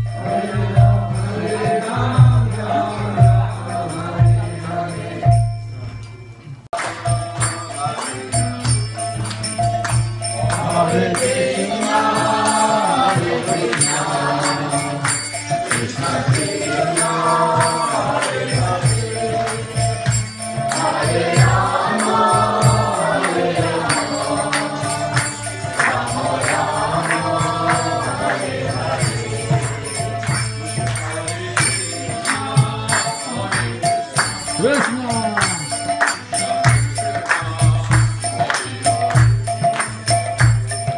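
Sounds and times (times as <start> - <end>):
group chanting: 0.0 - 5.4, 10.4 - 38.6
hand cymbals jingling: 1.5 - 40.9.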